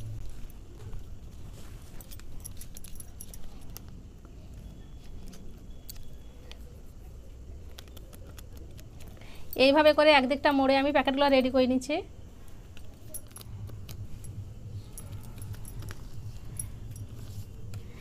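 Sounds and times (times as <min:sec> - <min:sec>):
bangles clinking: 0:00.0 - 0:18.0.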